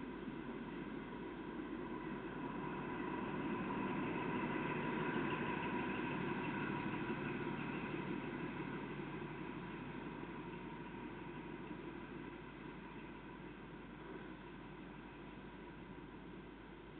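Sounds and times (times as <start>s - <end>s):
rumble of train wheels: 0.0s - 16.9s.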